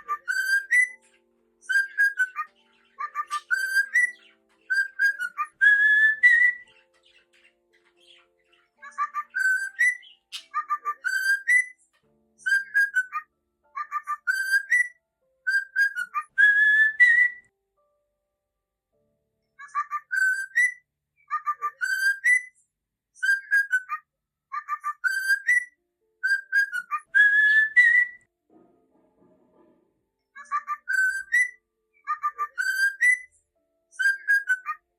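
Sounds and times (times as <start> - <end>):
cockatiel whistling a tune: 0.0 - 11.8, 12.4 - 17.5, 19.6 - 22.6, 23.2 - 24.0, 24.6 - 28.3, 30.4 - 34.8.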